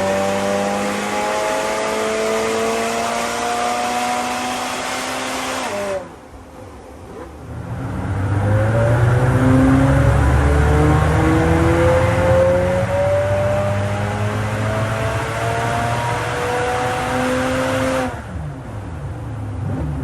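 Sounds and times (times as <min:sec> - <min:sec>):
car engine accelerating: 0:00.0 - 0:06.2, 0:07.0 - 0:20.0.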